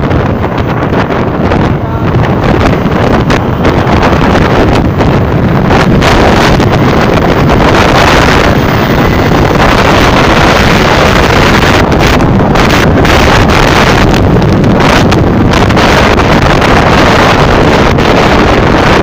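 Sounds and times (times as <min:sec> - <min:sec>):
motorcycle engine: 0:00.0 - 0:19.0
vehicle and road rumble: 0:00.0 - 0:19.0
wind buffeting microphone: 0:00.0 - 0:19.0.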